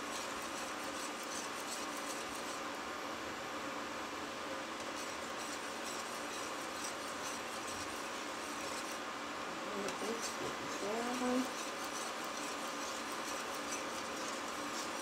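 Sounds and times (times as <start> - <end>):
whisk scraping a metal saucepan: 0.0 - 2.7, 4.8 - 9.0, 9.8 - 15.0
induction hob fan whirring: 0.0 - 15.0.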